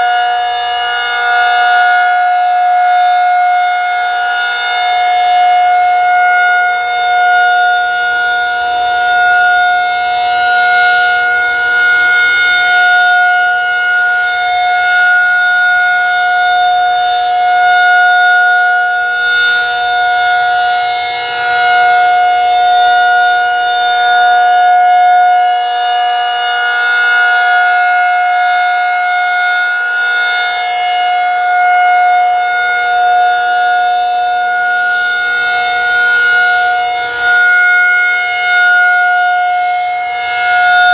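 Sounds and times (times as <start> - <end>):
rotating warning siren steady tone: 0.0 - 40.9.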